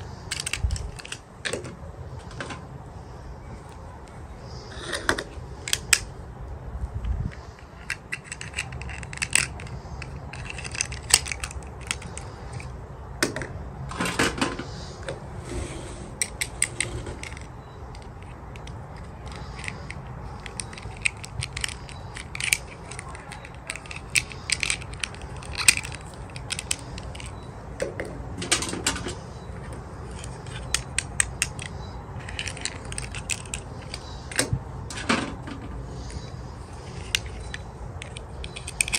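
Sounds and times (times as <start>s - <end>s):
plastic toy parts clicking: 0.3s - 2.5s, 4.7s - 6.2s, 7.3s - 14.2s, 16.1s - 38.9s.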